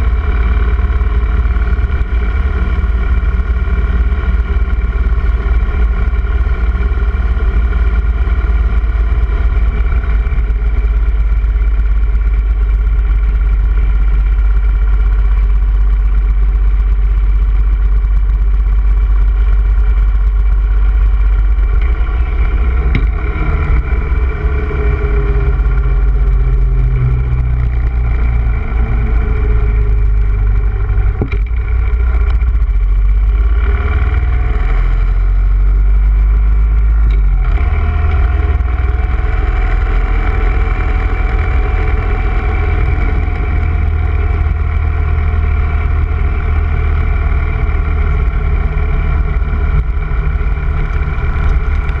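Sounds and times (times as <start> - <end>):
motorcycle engine rumbling: 0.0 - 52.0.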